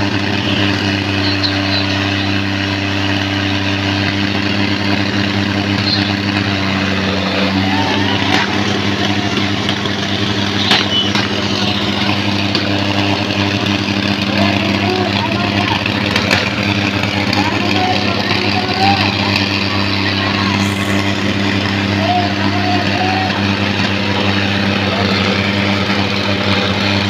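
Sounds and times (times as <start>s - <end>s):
crowd voices: 0.0s - 27.0s
tractor diesel engines running: 0.0s - 27.0s.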